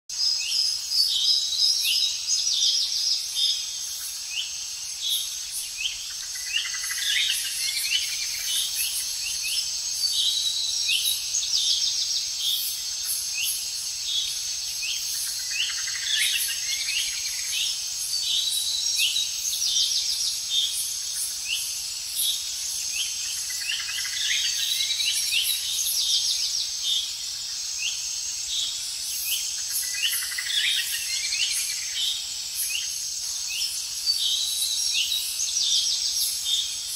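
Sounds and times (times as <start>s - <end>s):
high-pitched insect drone: 1.8s - 36.9s.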